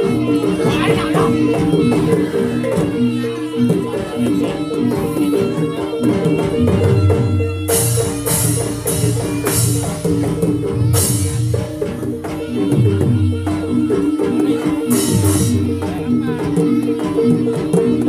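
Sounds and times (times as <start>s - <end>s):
gamelan ensemble music: 0.0s - 18.0s.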